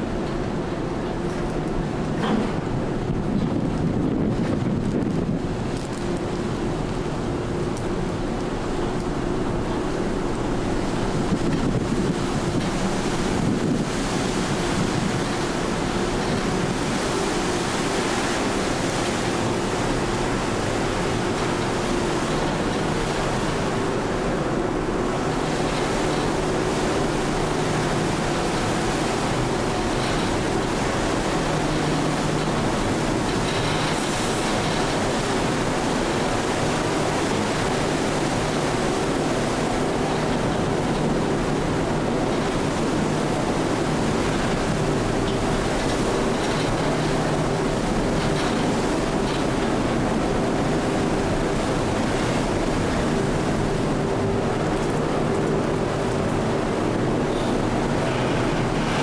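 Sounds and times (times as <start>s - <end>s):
ship engines rumbling: 0.0s - 59.0s.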